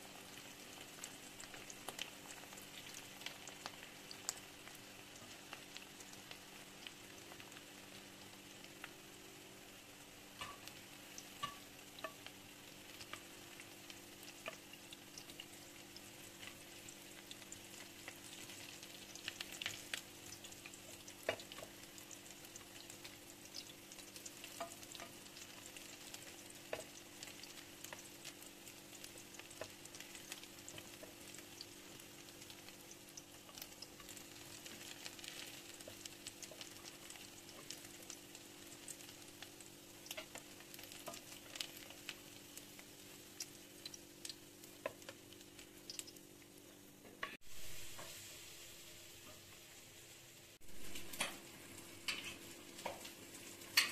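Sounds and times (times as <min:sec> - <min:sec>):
food sizzling in hot oil: 0:00.0 - 0:53.9.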